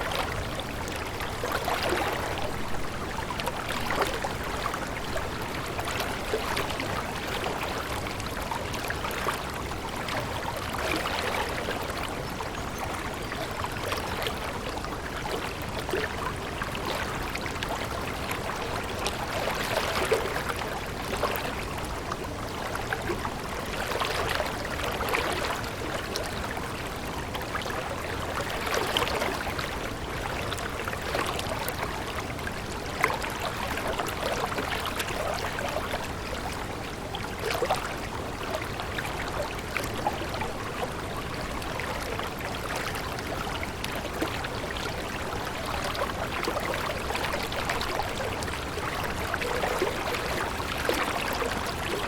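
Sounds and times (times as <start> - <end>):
stream running water: 0.0 - 52.0.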